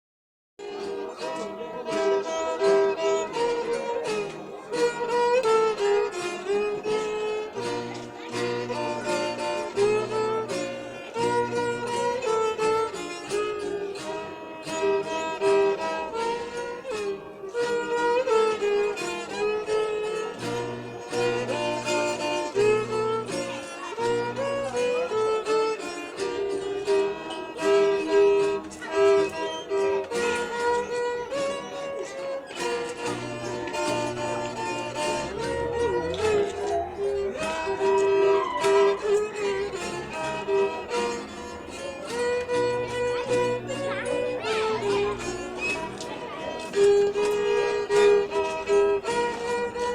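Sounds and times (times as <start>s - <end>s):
violin melody: 0.6s - 49.9s
plucked strings with low bass: 0.8s - 49.9s.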